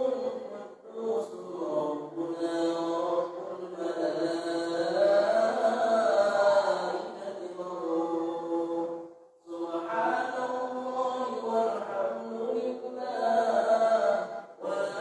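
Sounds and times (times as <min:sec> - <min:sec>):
man chanting over microphone: 0:00.0 - 0:15.0.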